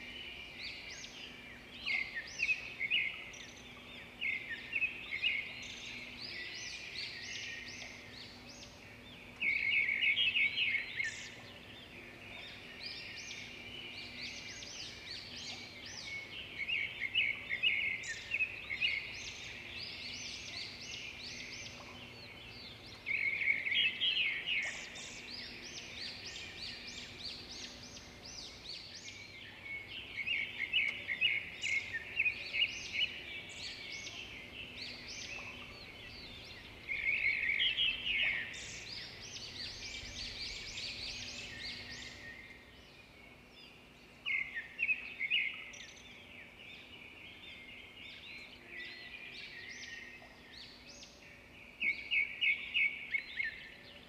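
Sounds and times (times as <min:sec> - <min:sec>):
songbirds chorus: 0:00.0 - 0:54.0.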